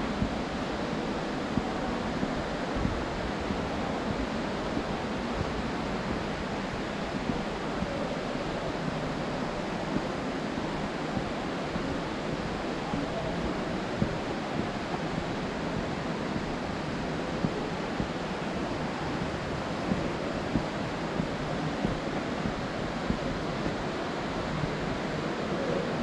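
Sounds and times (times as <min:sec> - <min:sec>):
rush of falling water: 0:00.0 - 0:26.0.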